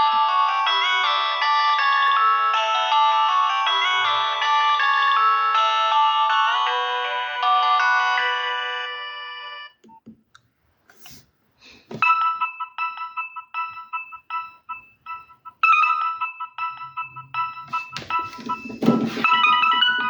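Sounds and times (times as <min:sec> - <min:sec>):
polyphonic phone ringtone: 0:00.0 - 0:09.8, 0:12.0 - 0:20.0.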